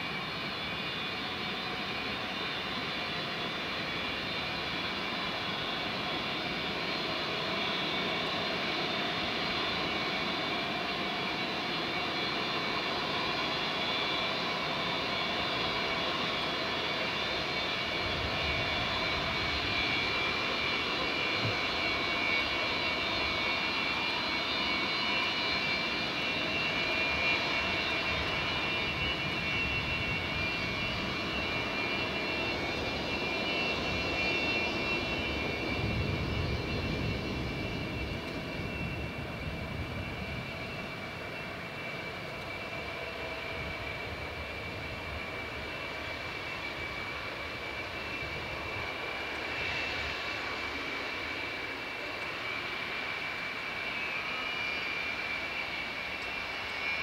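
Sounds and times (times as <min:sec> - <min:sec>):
jet engines whining and rumbling: 0:00.0 - 0:57.0.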